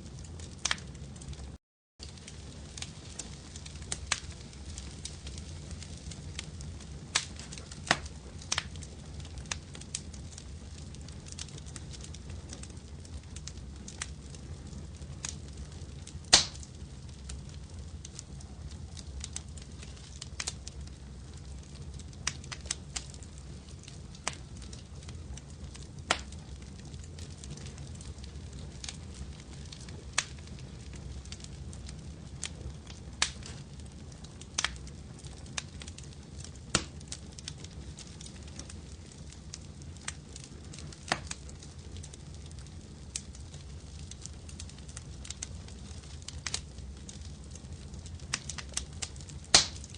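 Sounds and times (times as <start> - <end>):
fireplace fire crackling: 0.0 - 49.9.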